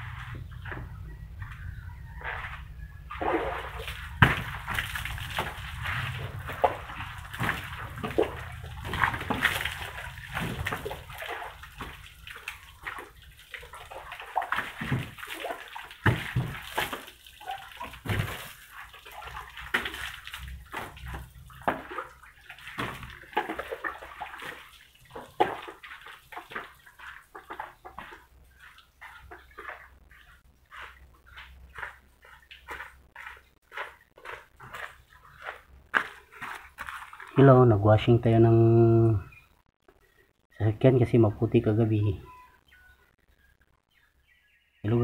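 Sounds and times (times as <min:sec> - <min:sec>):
water splashing and sloshing: 0:00.0 - 0:38.2.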